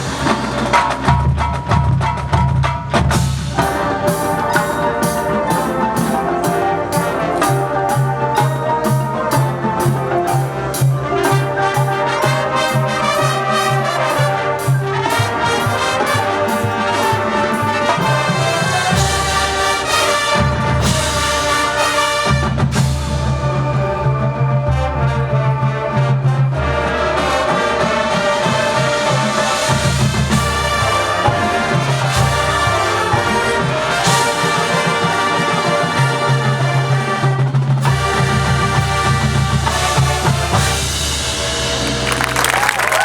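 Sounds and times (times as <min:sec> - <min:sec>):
marching band playing: 0:00.0 - 0:43.0.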